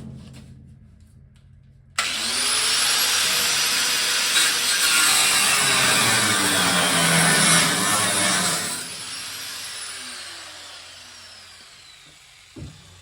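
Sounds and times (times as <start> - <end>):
angle grinder cutting sheet metal: 2.0 - 13.0.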